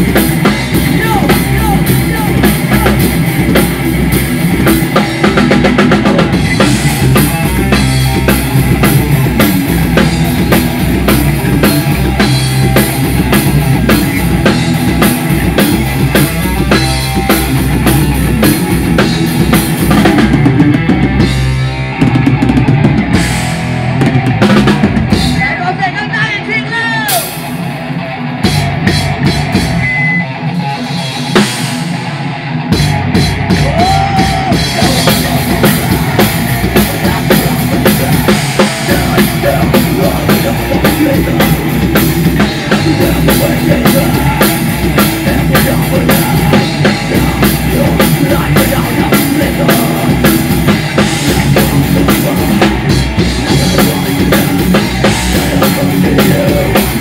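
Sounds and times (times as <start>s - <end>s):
distorted electric guitar: 0.0s - 57.0s
drum kit playing fast beat: 0.0s - 57.0s.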